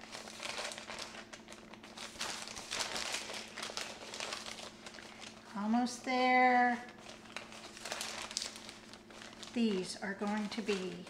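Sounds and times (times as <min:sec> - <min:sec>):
parchment paper crinkling: 0:00.0 - 0:11.0.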